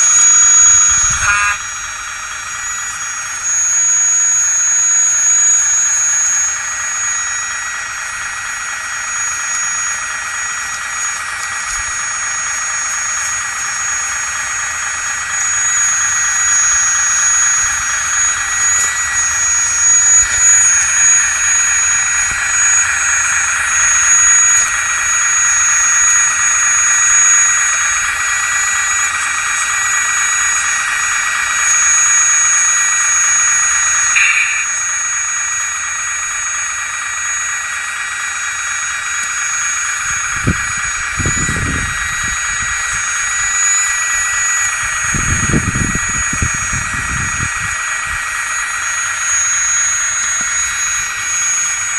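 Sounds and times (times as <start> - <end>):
electric motor whine: 0.0 - 51.9.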